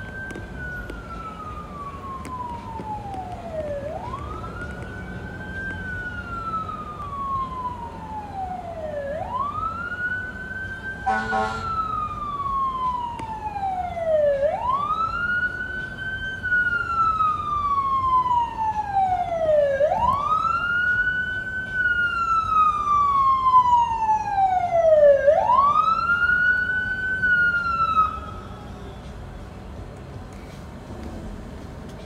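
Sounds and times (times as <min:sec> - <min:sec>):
fire engine siren wailing: 0:00.0 - 0:28.8.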